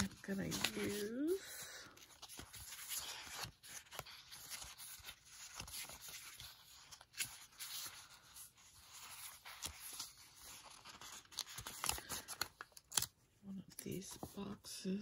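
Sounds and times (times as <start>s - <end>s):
sticker sheets rustling: 0.0s - 13.1s.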